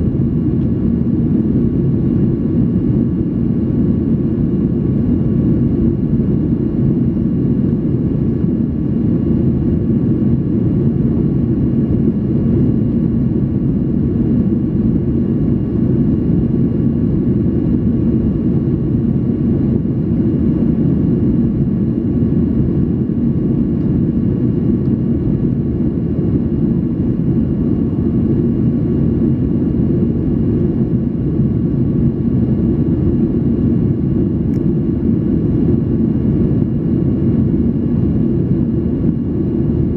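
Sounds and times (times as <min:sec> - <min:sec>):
aircraft cabin roar: 0:00.0 - 0:39.9.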